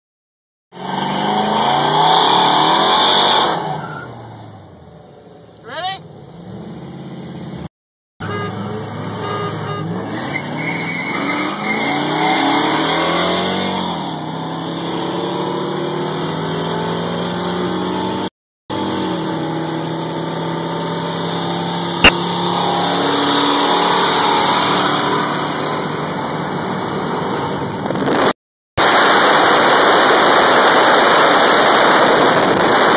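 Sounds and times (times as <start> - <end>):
wind and road rush: 0.7 - 32.9
car engine accelerating hard: 0.8 - 4.7, 8.3 - 32.9.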